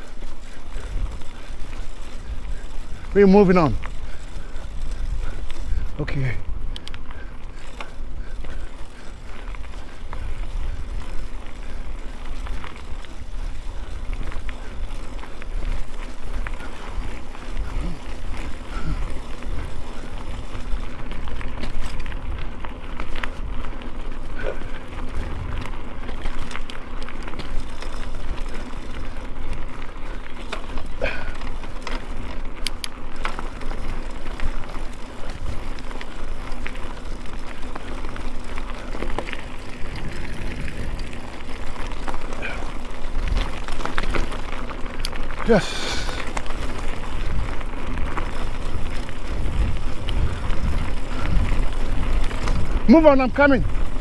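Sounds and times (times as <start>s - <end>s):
wind rumble on microphone: 0.0s - 30.0s, 38.5s - 52.9s, 53.5s - 54.0s
bike clicks and rattles: 0.0s - 54.0s.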